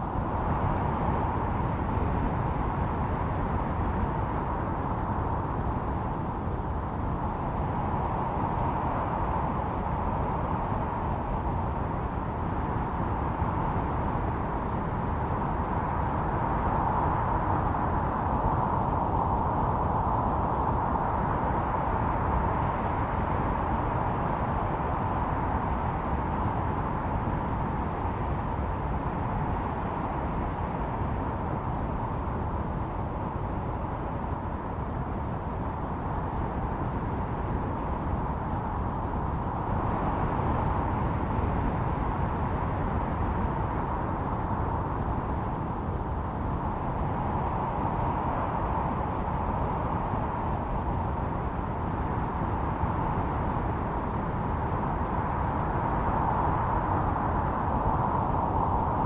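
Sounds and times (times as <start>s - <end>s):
howling blizzard wind: 0.0s - 59.0s.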